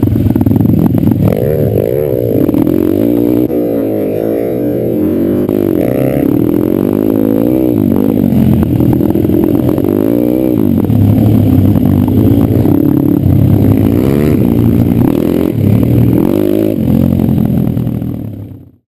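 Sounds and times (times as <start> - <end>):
pit bike engine revving: 0.0 - 18.7.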